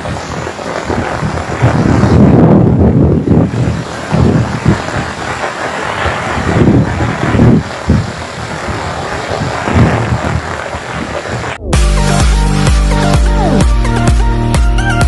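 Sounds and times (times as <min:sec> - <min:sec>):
heavy rain hissing: 0:00.0 - 0:14.5
low thumps and rumbles: 0:00.0 - 0:15.0.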